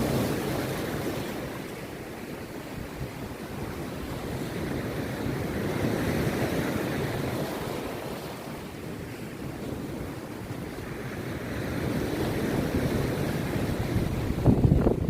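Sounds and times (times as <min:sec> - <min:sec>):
sea surf breaking on beach: 0:00.0 - 0:15.0.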